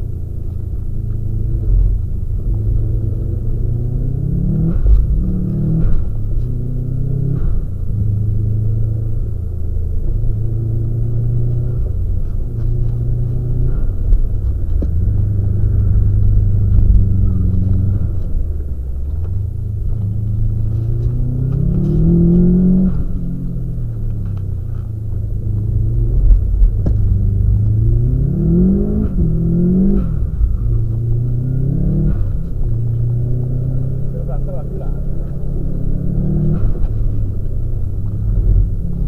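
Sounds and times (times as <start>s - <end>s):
car engine revving: 0.0s - 39.0s
low rumble of road and wind: 0.0s - 39.0s.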